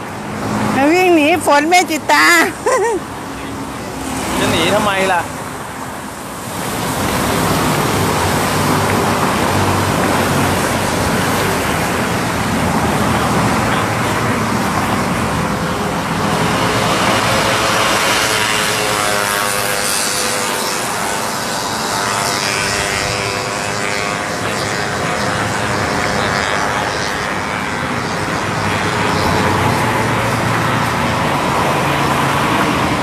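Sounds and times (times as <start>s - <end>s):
engine drone: 0.0s - 33.0s.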